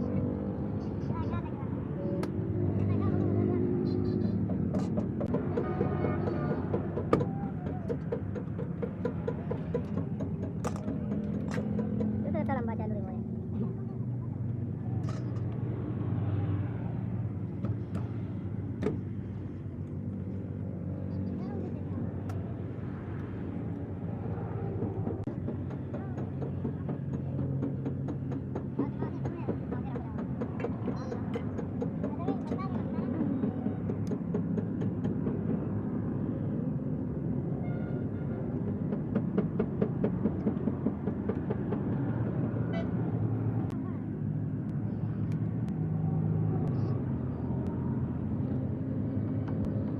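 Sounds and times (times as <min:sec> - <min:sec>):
vehicle engine humming: 0:00.0 - 0:49.9.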